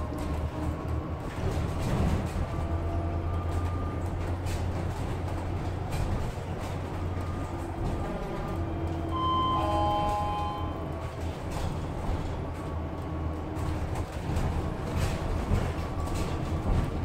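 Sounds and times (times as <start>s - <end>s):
bus engine drone: 0.0s - 17.0s
road rumble: 0.0s - 17.0s.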